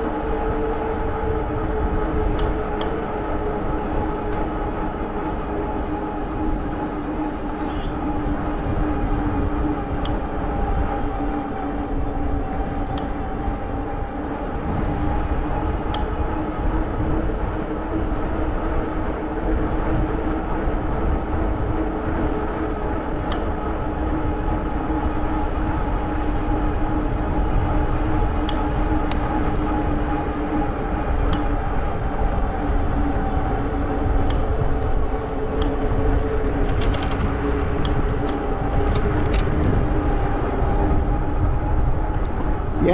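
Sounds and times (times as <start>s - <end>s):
wind rumble on microphone: 0.0s - 42.9s.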